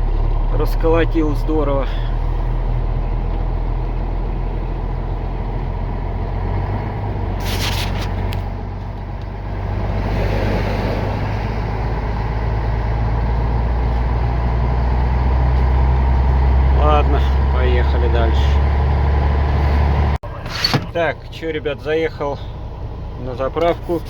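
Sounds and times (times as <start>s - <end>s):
road noise: 0.0s - 24.0s
truck engine running: 0.0s - 24.0s.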